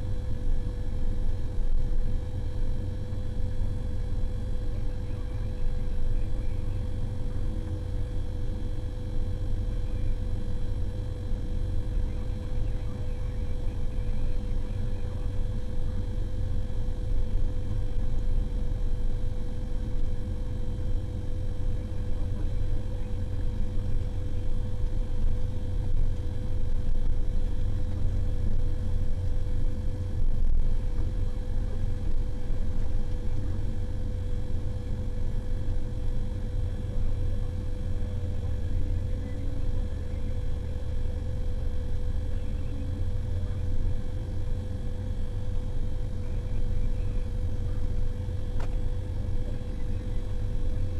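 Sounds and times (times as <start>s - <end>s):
diesel engine rumbling with whine: 0.0s - 50.9s.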